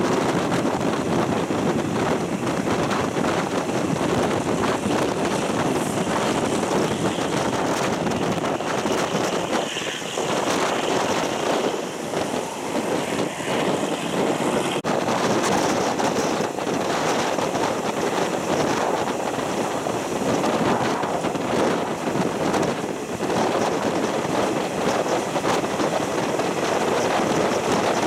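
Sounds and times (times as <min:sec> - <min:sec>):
wheel and rail rumble: 0:00.0 - 0:28.0
wind buffeting microphone: 0:00.0 - 0:28.0.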